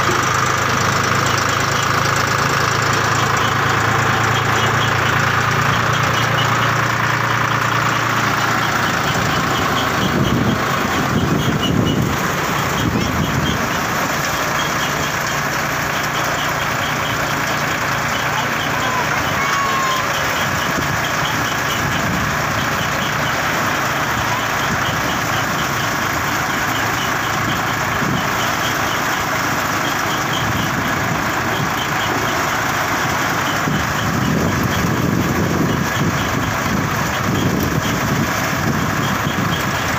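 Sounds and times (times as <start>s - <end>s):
thresher drum churning: 0.0s - 39.9s
tractor engine running: 0.0s - 39.9s.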